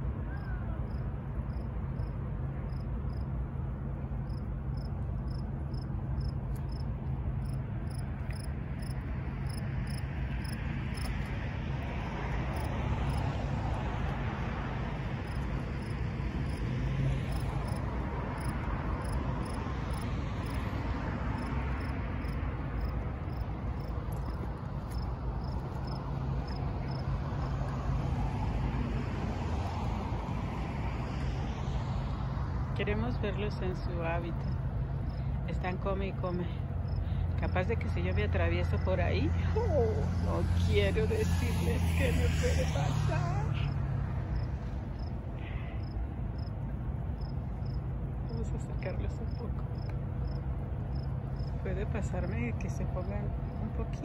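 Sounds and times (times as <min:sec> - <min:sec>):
road traffic rumble: 0:00.0 - 0:54.0
crickets chirping: 0:00.3 - 0:03.4, 0:04.1 - 0:54.0.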